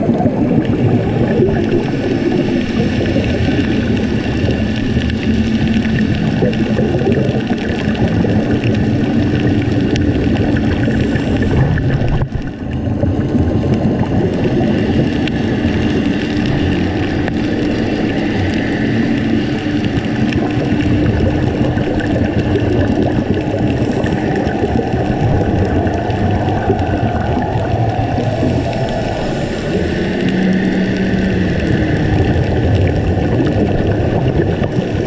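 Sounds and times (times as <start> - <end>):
underwater motor drone: 0.0 - 35.0.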